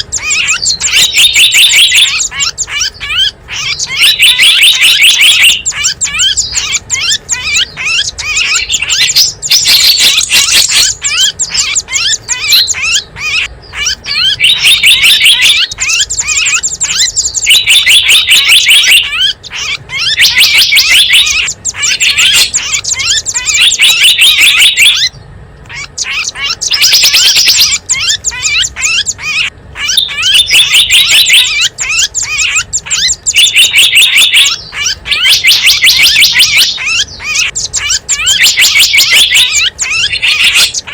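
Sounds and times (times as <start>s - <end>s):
small birds chirping trills: 0.0s - 40.9s.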